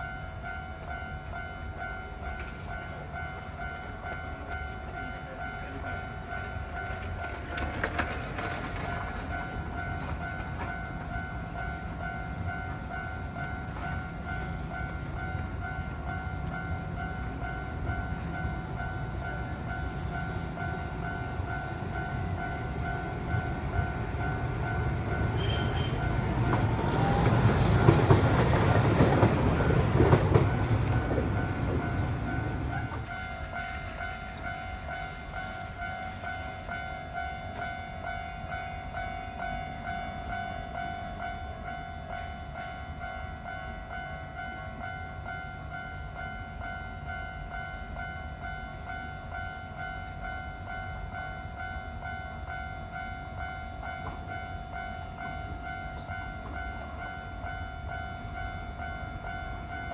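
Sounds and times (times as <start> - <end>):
level-crossing warning bell: 0.0 - 59.9
train rumble passing: 0.0 - 59.9.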